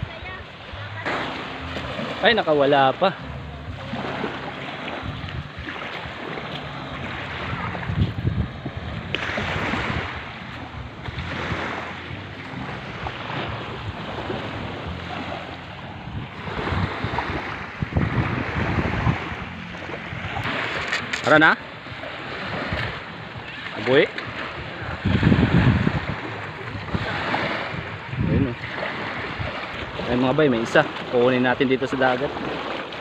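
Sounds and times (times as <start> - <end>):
waves lapping on gravel shore: 0.0 - 33.0
wind buffeting microphone: 3.2 - 31.2.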